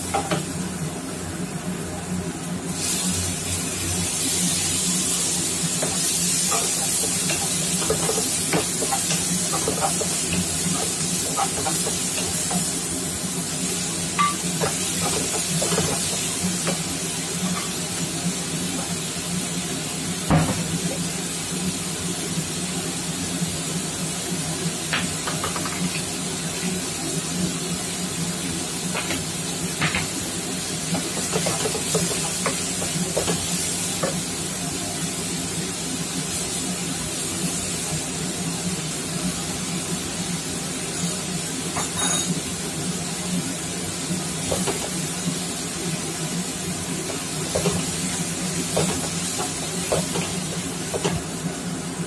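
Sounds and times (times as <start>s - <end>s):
food sizzling in a wok: 0.0s - 52.0s.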